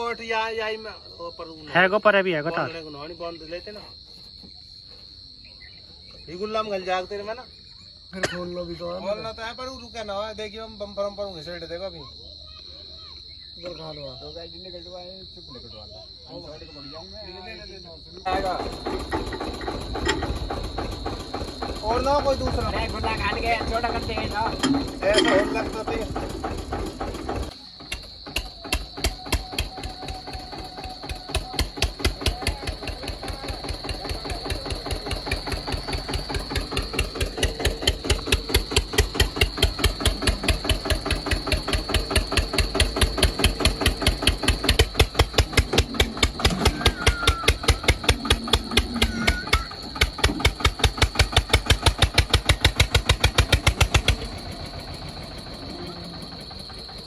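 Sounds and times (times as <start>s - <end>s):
tractor diesel engine chugging: 0.0s - 12.6s, 16.3s - 57.0s.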